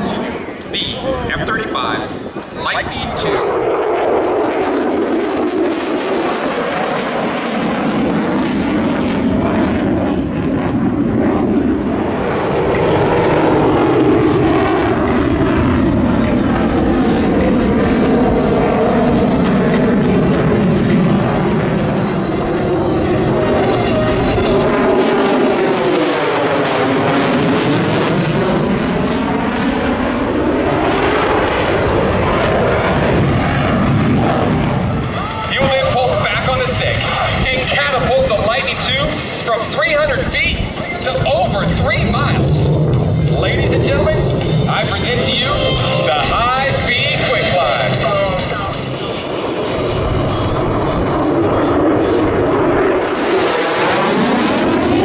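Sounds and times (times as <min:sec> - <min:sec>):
fighter jet engine rushing: 0:00.0 - 0:55.0.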